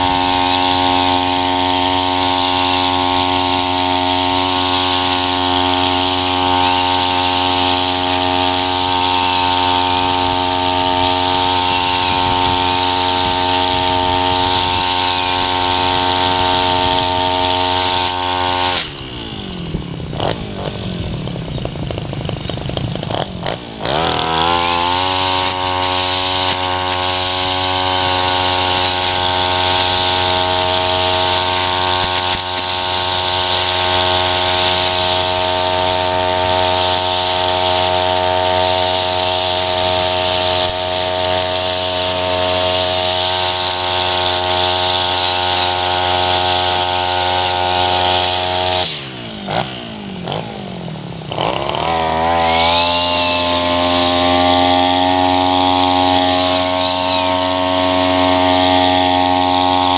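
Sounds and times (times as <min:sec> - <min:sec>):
brush cutter engine running: 0:00.0 - 0:59.9
trimmer line cutting grass: 0:00.0 - 0:59.9.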